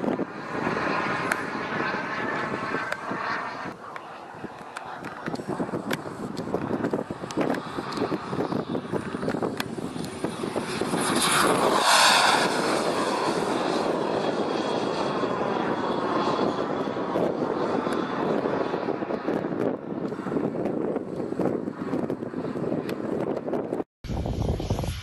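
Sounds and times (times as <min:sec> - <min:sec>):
model jet turbine whine passing: 0:00.0 - 0:25.0.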